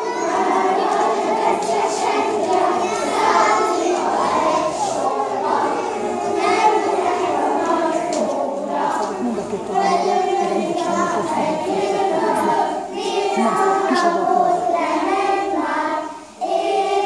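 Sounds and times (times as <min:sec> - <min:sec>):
children singing in chorus: 0:00.0 - 0:17.0.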